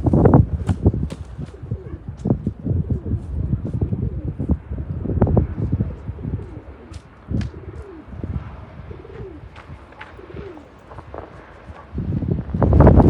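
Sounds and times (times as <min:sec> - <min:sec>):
pigeons cooing: 0:00.0 - 0:12.1
wind rumbling on microphone: 0:00.0 - 0:13.0.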